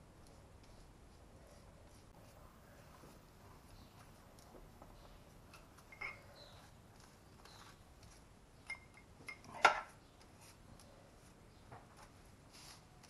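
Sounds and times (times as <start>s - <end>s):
brushing strokes on pastry: 0.0s - 13.0s.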